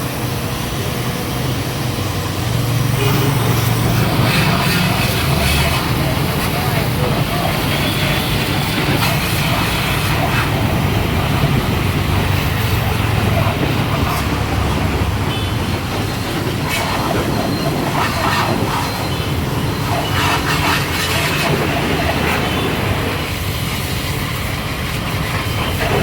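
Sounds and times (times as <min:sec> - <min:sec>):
pressure washer motor hum: 0:00.0 - 0:26.0
water jet hissing: 0:00.0 - 0:26.0.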